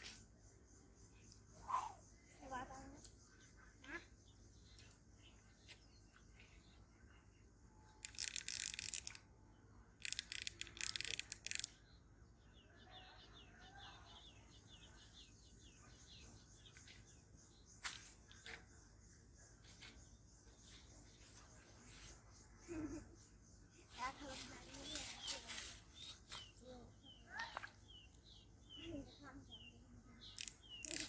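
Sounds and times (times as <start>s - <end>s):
bird chirping: 0.0s - 9.3s, 10.0s - 31.0s.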